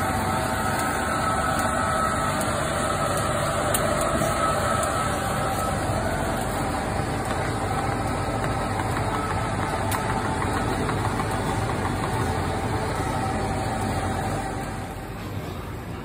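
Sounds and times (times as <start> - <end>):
refrigeration machines humming: 0.0 - 16.0
steady tones: 0.0 - 16.0.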